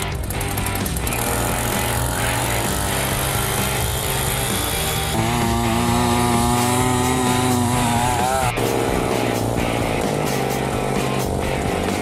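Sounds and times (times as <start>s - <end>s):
background music: 0.0s - 12.0s
small engine running: 0.0s - 12.0s.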